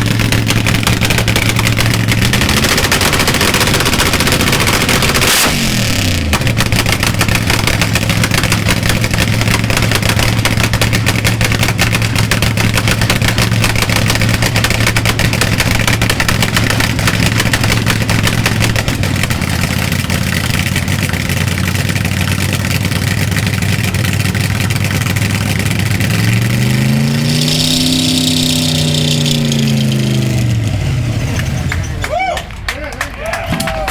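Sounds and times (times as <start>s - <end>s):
engine revving: 0.0s - 32.1s
dragster engine idling with crackle: 0.0s - 33.1s.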